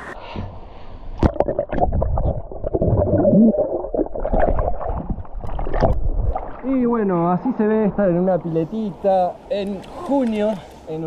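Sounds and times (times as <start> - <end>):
underwater gurgling and sloshing: 0.0 - 11.0.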